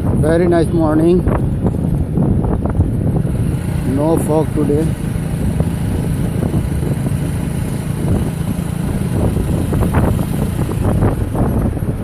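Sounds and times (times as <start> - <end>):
motorcycle engine running: 0.0 - 12.0
wind and road noise rumble: 0.0 - 12.0.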